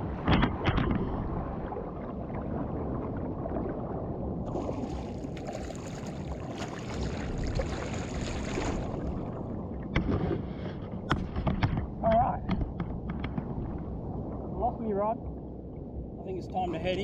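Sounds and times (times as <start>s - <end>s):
water sloshing around a kayak: 0.0s - 15.2s.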